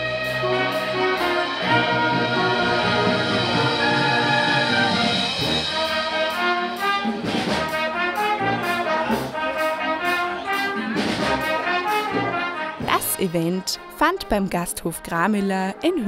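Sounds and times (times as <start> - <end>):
percussion beat: 0.0 - 13.6
trumpets and trombones playing: 0.0 - 14.7.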